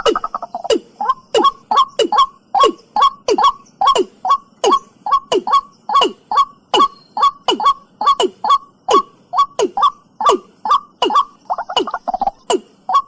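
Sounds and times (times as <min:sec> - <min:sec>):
bird calling falling notes: 0:00.0 - 0:13.0.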